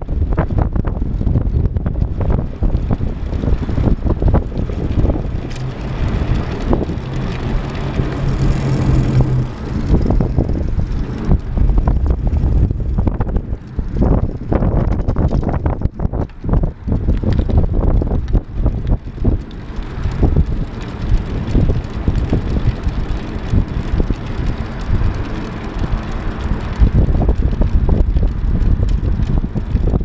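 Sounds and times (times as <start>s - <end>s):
bike and camera mount rattling: 0.0s - 30.0s
low steady hum: 0.0s - 30.0s
wind buffeting microphone: 0.0s - 30.0s.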